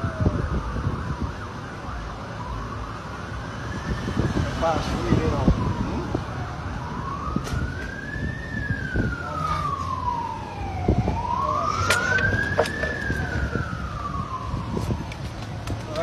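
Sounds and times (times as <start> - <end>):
siren wailing: 0.0 - 15.3.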